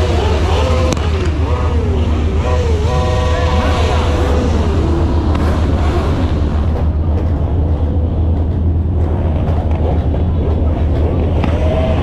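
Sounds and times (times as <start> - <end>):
car engines and road noise: 0.0 - 12.0.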